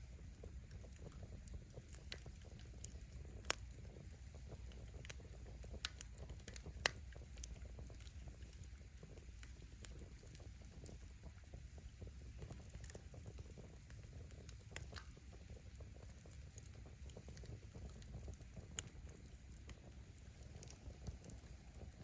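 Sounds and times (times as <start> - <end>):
firewood popping: 0.0 - 22.0
wood fire crackling: 0.0 - 22.0.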